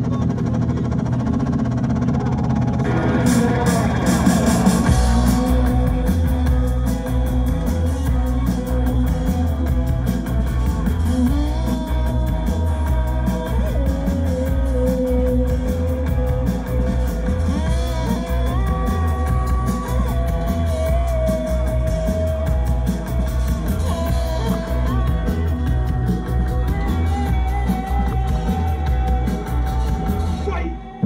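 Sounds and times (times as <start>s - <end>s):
live rock band playing: 0.0s - 31.0s
bending guitar notes: 1.7s - 31.0s.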